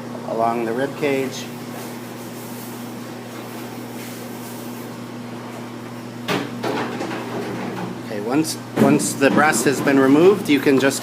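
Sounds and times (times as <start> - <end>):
electrical hum of kitchen equipment: 0.0 - 11.0.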